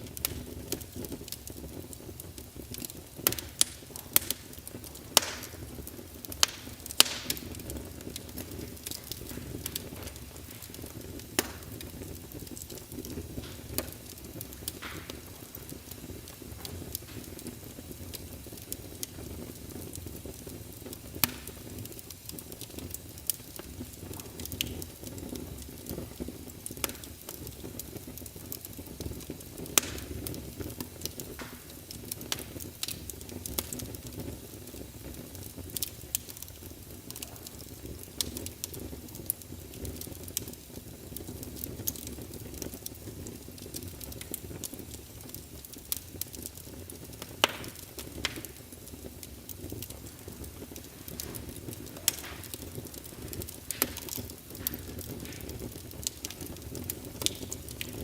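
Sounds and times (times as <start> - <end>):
low rush of flames: 0.0 - 58.0
wood fire popping and snapping: 0.0 - 58.0.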